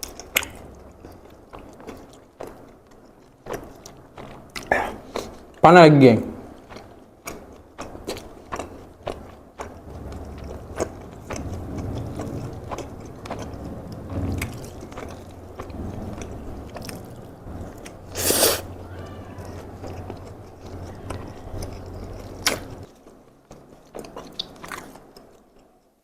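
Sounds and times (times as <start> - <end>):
close chewing with mouth clicks: 0.0 - 5.6, 6.4 - 26.0.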